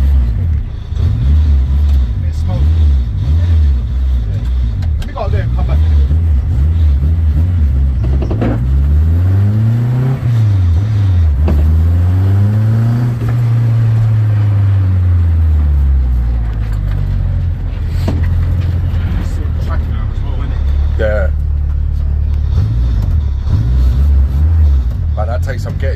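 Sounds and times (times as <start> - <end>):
car engine revving and idling: 0.0 - 25.9.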